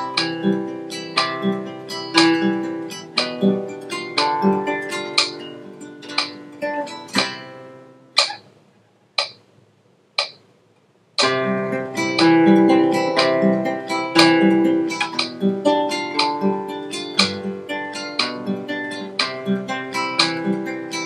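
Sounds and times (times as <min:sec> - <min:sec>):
classical guitar fingerstyle: 0:00.0 - 0:08.5, 0:11.2 - 0:21.0.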